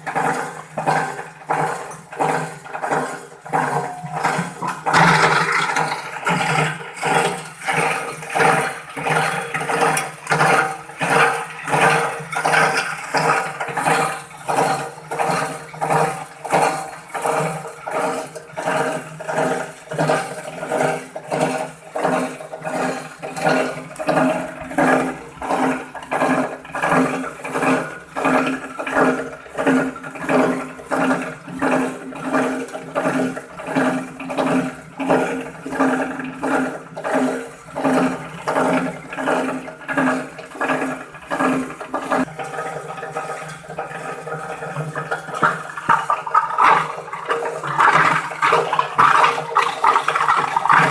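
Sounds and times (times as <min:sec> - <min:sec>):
grinding machine churning: 0:00.0 - 0:50.9.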